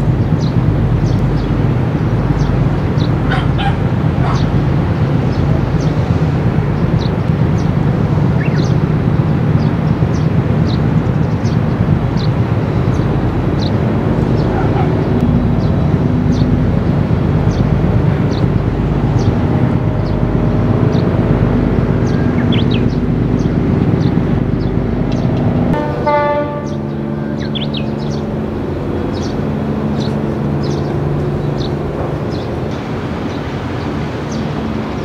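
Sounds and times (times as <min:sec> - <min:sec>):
low tugboat engine rumble: 0:00.0 - 0:35.0
steady engine tones: 0:00.0 - 0:35.0.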